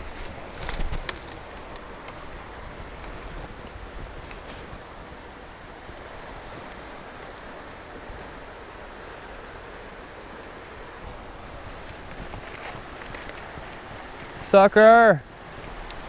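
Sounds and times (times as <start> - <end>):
outdoor background rush: 0.0 - 16.0.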